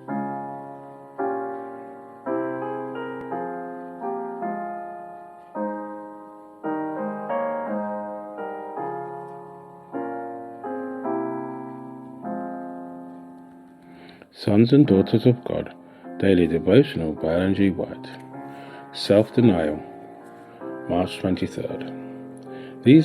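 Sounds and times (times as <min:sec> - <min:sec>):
slow gentle piano chords: 0:00.0 - 0:23.0.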